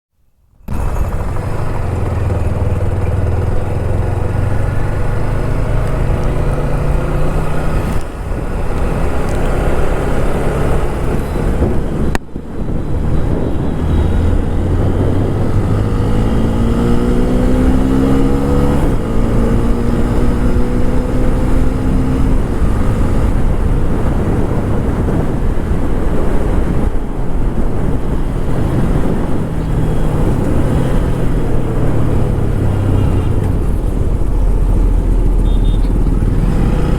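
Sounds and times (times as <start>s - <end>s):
wind and road noise: 0.1s - 36.9s
motorcycle engine accelerating: 0.6s - 36.9s.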